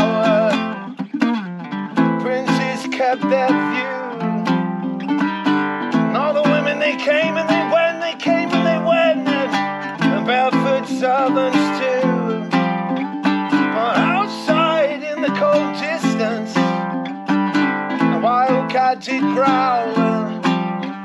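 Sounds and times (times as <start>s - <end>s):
ukulele strumming chords: 0.0s - 21.0s.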